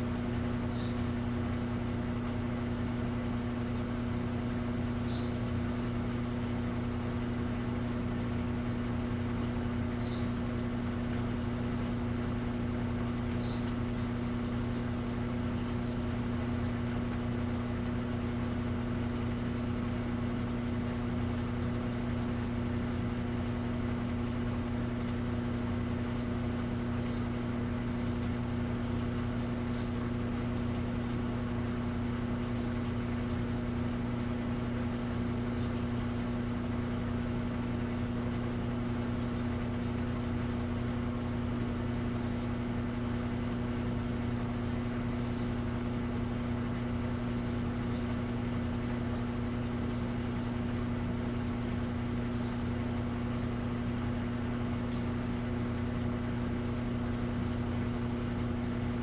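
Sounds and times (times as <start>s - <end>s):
washing machine hum: 0.0s - 59.0s.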